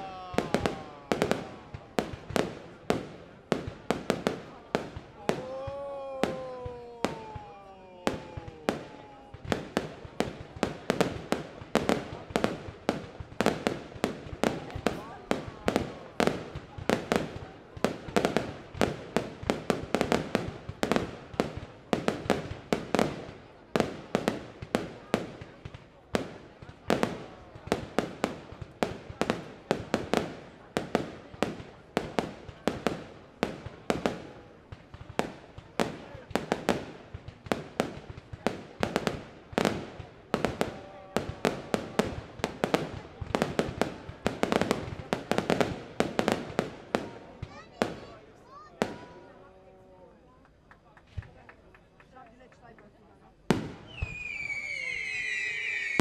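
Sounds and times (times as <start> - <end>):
fireworks bangs: 0.0 - 48.1, 53.5 - 56.0.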